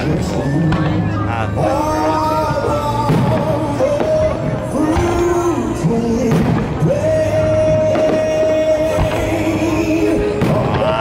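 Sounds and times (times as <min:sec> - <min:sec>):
fireworks bursting: 0:00.0 - 0:11.0
music with long sung notes: 0:00.0 - 0:11.0.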